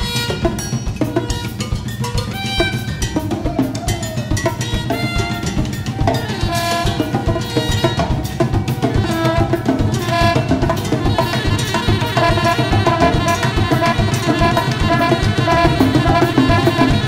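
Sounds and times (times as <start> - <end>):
drum kit and hand percussion: 0.0 - 17.0.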